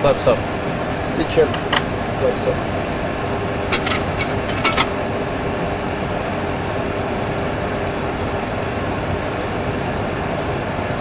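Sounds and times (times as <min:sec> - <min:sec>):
engine and airflow noise: 0:00.0 - 0:11.0
faint steady hum: 0:00.0 - 0:11.0.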